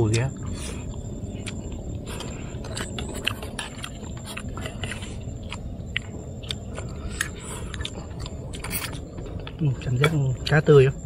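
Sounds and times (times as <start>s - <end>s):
chewing: 0.1s - 9.9s.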